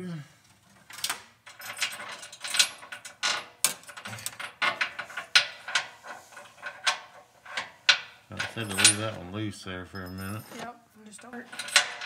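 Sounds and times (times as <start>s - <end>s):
metal hardware clinking on frame: 0.8s - 9.3s, 9.9s - 12.0s.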